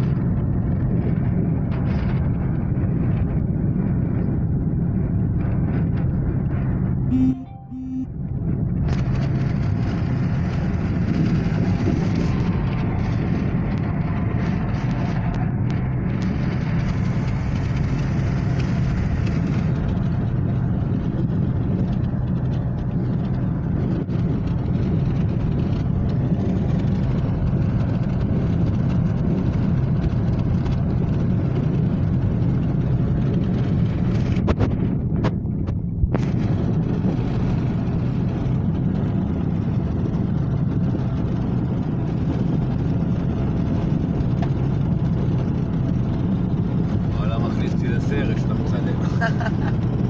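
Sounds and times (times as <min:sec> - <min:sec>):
motorcycle engine running: 0:00.0 - 0:50.0
road and wind noise: 0:00.0 - 0:50.0.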